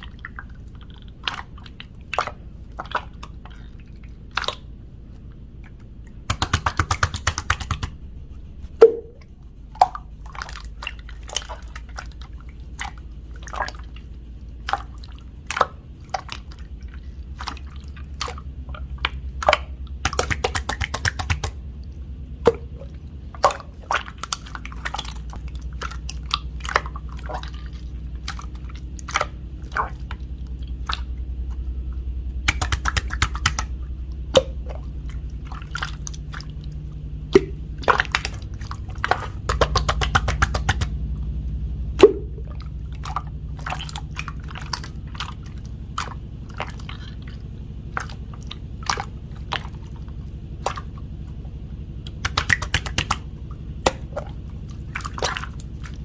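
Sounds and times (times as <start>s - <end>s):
low steady hum: 0.0s - 56.0s
slime squelching: 0.0s - 56.0s.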